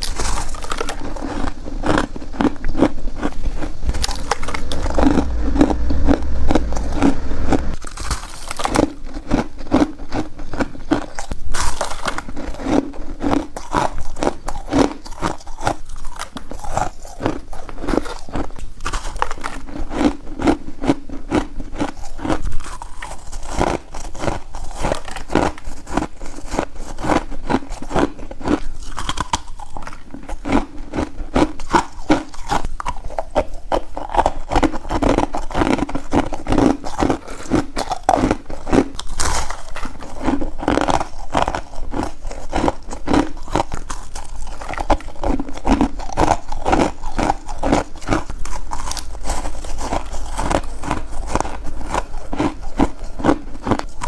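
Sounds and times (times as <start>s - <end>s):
person crunching ice: 0.0s - 7.1s, 7.7s - 54.0s.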